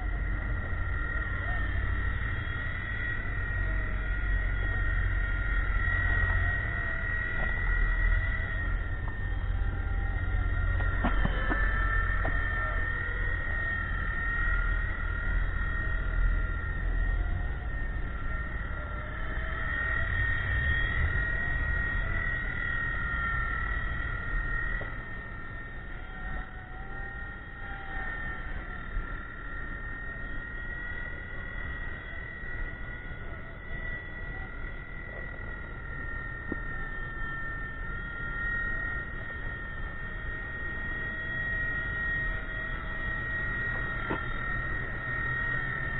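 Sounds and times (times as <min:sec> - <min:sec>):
helicopter motor and rotor whine: 0:00.0 - 0:45.9
lower whine: 0:00.0 - 0:45.9.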